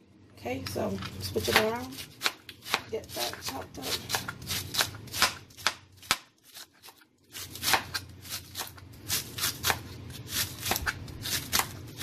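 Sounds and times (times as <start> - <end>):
knife chopping cabbage on board: 1.4 - 12.0.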